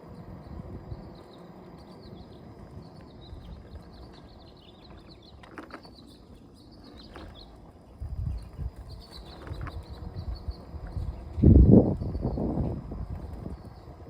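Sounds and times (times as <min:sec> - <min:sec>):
small birds chirping: 0:00.0 - 0:14.0
unicycle rolling noise: 0:00.0 - 0:14.0
wind rumble: 0:00.0 - 0:14.0.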